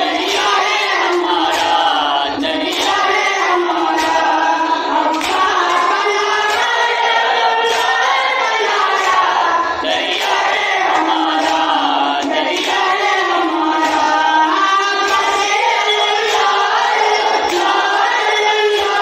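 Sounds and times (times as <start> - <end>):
boy and men chanting: 0.0 - 19.0.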